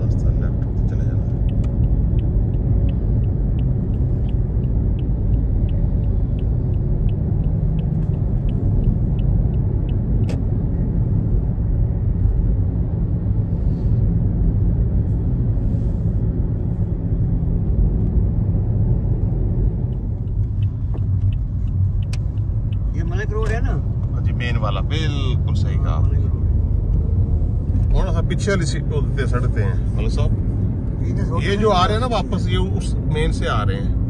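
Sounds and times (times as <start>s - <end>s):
turn signal ticking: 0.0s - 13.2s, 16.2s - 34.0s
car engine and tyres rumbling: 0.0s - 34.0s.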